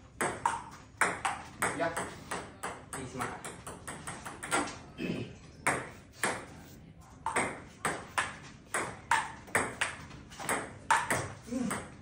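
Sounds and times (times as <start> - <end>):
table tennis ball hits: 0.2 - 4.9, 5.7 - 6.6, 7.2 - 12.0.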